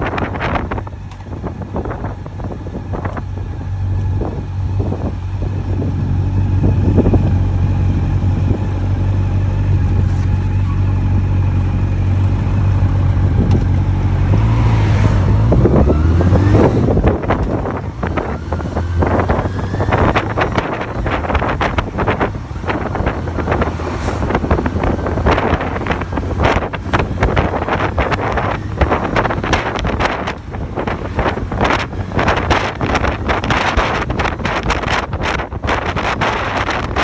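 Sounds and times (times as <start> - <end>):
motorcycle engine: 0.0 - 37.0
wind buffeting microphone: 0.0 - 37.0.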